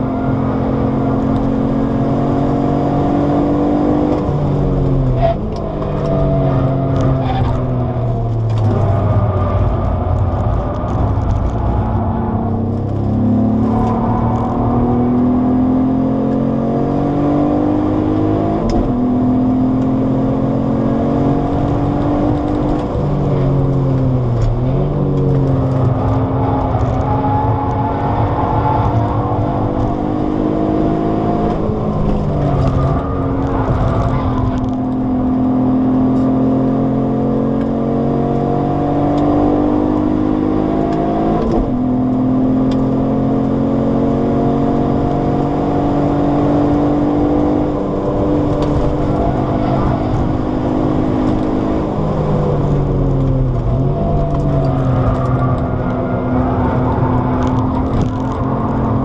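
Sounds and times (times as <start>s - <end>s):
car engine revving with gear changes: 0.0s - 59.0s.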